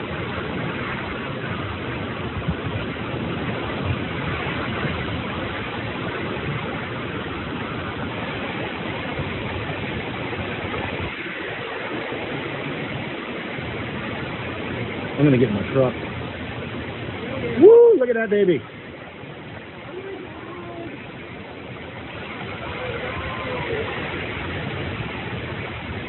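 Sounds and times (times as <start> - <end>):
rain: 0.0 - 26.0
storm wind: 0.0 - 26.0.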